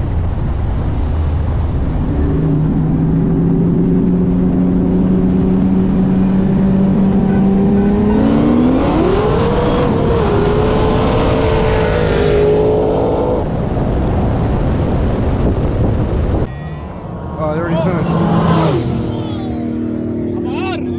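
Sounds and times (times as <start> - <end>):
car engines revving: 0.0 - 20.9.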